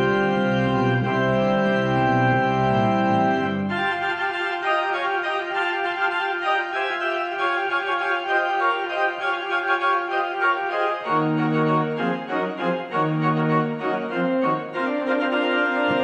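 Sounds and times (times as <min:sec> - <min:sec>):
church organ playing: 0:00.0 - 0:16.0.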